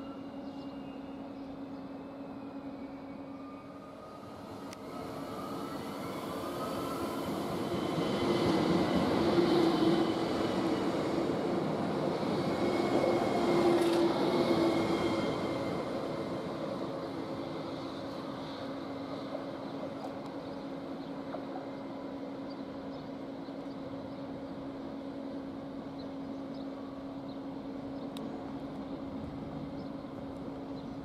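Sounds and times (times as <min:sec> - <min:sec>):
train wheels on rail: 0:04.3 - 0:31.0.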